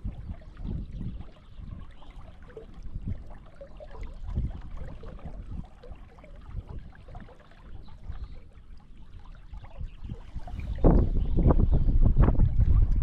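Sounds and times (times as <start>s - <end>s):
river water: 0.0s - 13.0s
wind buffeting the microphone: 0.0s - 13.0s.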